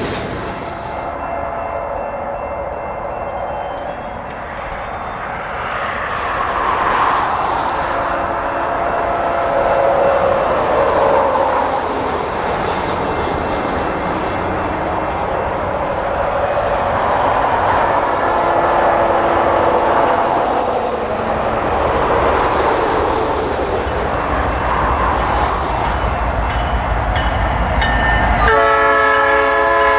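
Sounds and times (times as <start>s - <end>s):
freight train rolling past: 0.0s - 29.9s.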